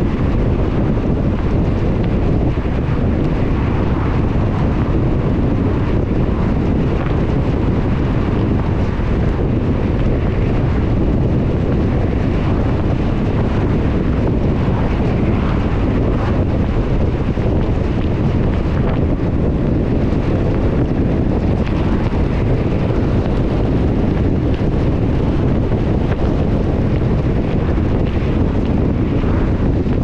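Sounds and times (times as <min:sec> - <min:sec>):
car tyres rumbling on wet road: 0:00.0 - 0:30.0.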